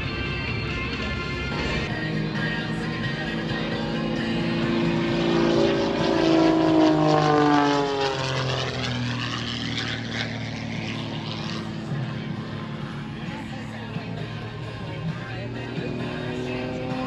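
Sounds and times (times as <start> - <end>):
propeller airplane flying past: 0.0 - 17.0.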